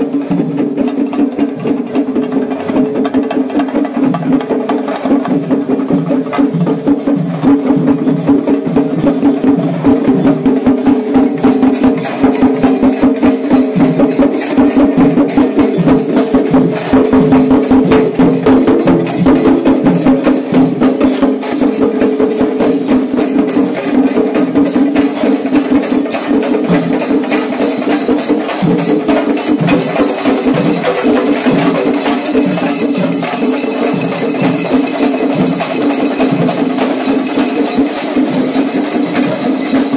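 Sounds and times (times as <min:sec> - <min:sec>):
drums playing fast strokes: 0:00.0 - 0:39.9
cymbals shimmering: 0:05.9 - 0:39.9.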